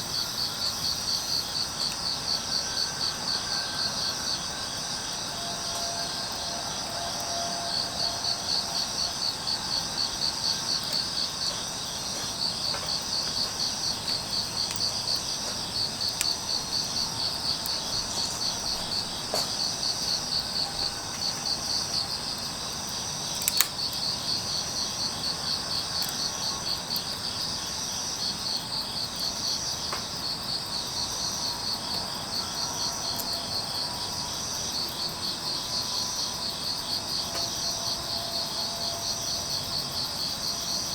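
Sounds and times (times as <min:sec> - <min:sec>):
wood fire crackling: 0:00.0 - 0:34.1
crickets chirping: 0:00.0 - 0:40.9.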